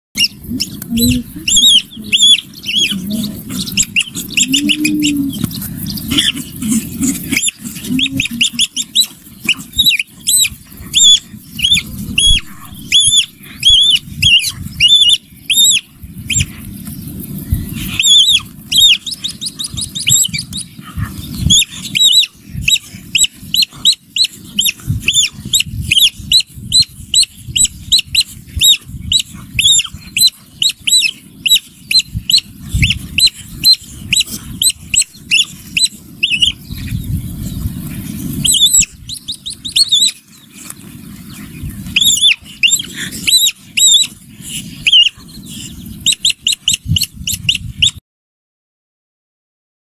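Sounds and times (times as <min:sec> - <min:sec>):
animals squeaking in a fight: 0:00.2 - 0:16.7, 0:17.7 - 0:48.0.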